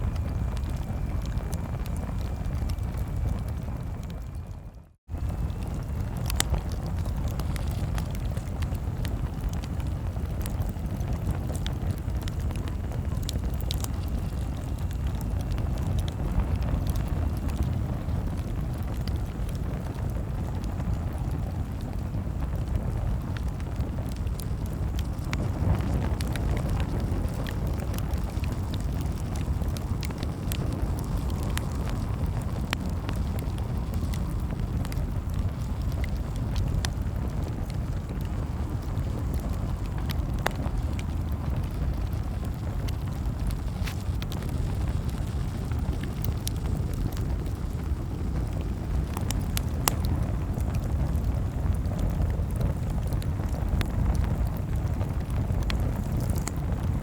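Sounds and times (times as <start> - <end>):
campfire crackling and popping: 0.0 - 57.0
steady low rumble: 0.0 - 57.0.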